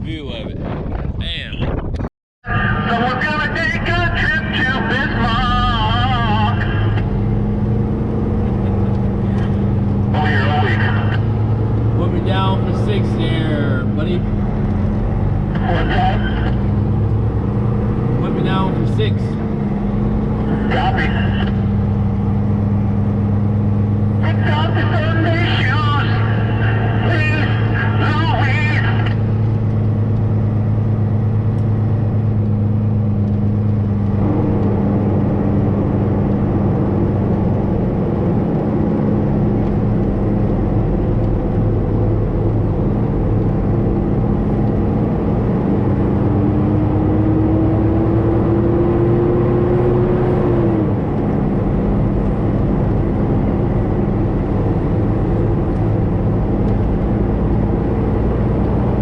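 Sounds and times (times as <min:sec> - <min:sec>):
diesel truck engine running: 0:02.4 - 0:59.0.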